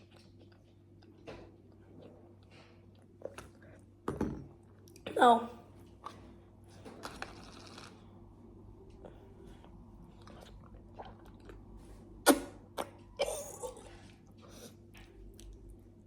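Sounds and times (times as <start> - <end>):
soft chewing: 0.0 - 4.0, 5.8 - 16.0.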